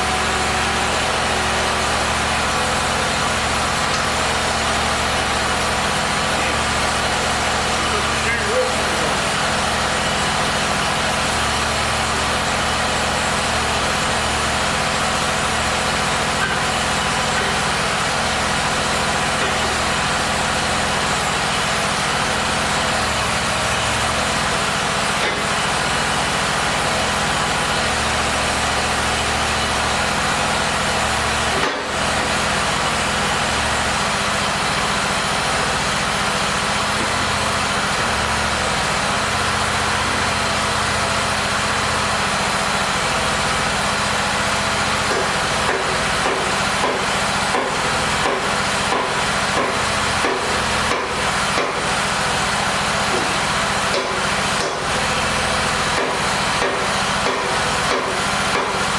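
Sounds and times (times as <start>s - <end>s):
machine hum and hiss: 0.0s - 58.9s.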